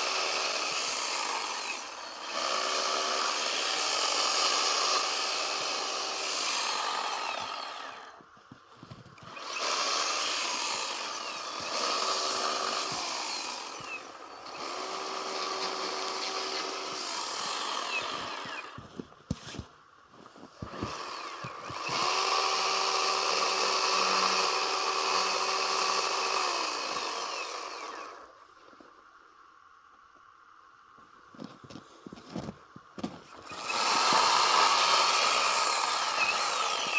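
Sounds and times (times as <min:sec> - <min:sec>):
chainsaw cutting into snow: 0:00.0 - 0:28.4, 0:31.4 - 0:36.9.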